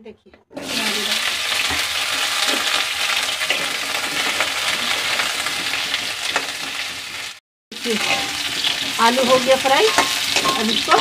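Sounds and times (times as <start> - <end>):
metal spatula scraping: 0.5 - 11.0
potatoes sizzling in oil: 0.6 - 11.0.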